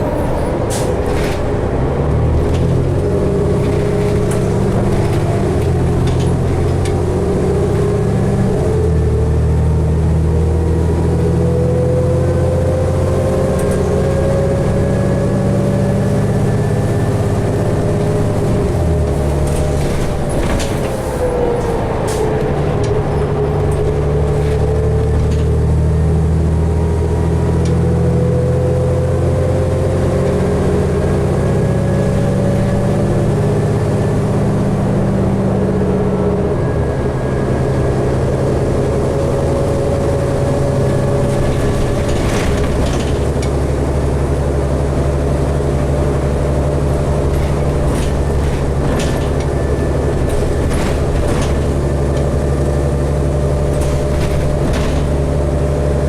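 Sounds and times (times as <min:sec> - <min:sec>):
bus engine drone: 0:00.0 - 0:56.0
drivetrain whine: 0:00.0 - 0:56.0.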